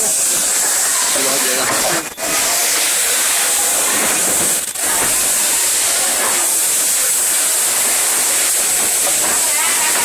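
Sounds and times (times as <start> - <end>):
factory machinery hissing: 0.0 - 10.0.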